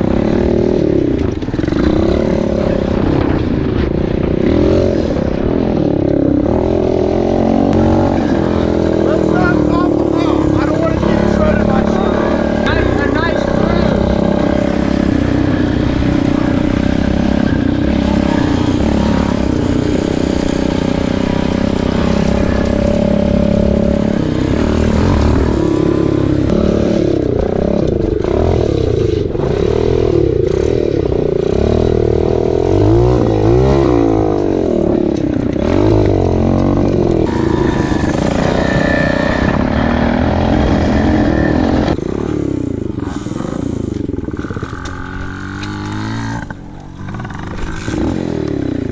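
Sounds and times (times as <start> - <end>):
pit bike engines revving: 0.0 - 48.9.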